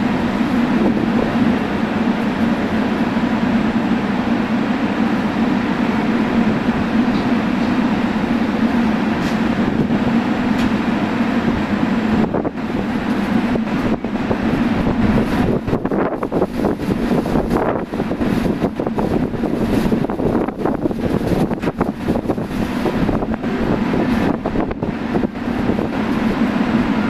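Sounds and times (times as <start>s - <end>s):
electric train equipment humming: 0.0s - 27.0s
wind buffeting microphone: 0.0s - 27.0s.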